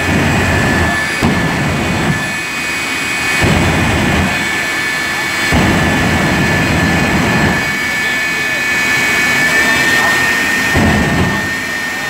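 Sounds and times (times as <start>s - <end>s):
afterburner low rumble: 0.0s - 12.0s
jet engine whine and roar: 0.0s - 12.0s.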